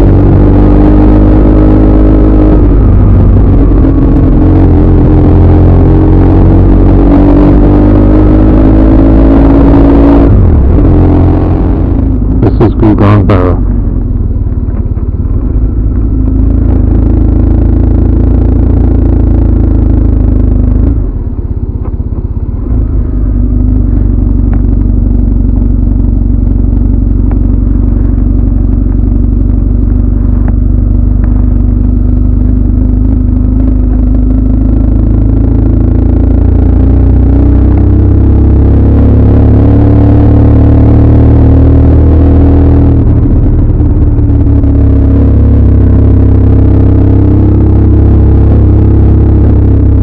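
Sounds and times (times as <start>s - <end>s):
motorcycle engine rumbling: 0.0s - 50.0s.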